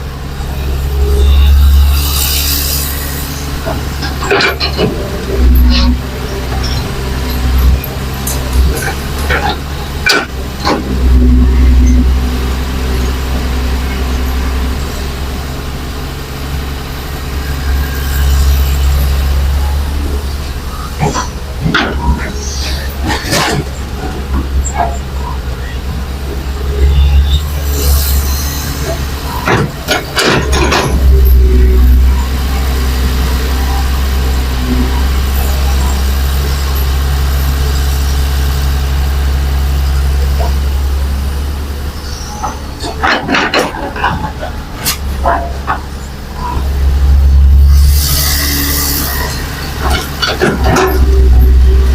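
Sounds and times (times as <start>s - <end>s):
diesel engine low rumble: 0.0s - 51.9s.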